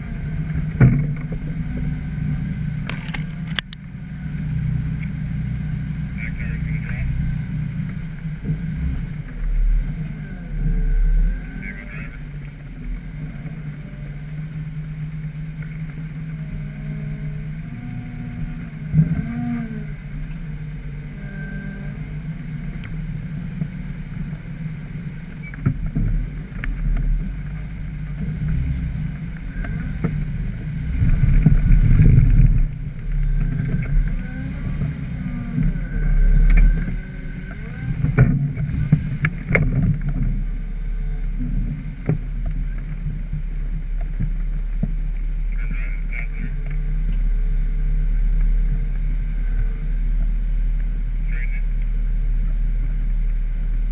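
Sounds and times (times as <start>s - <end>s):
engine throttle bursts: 0.0s - 53.9s
off-road engine running: 0.0s - 53.9s.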